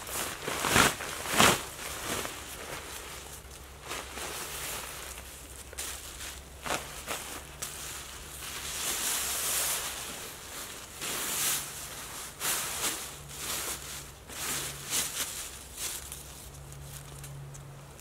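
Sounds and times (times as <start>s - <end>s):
plastic bin bag crinkling: 0.0s - 17.4s.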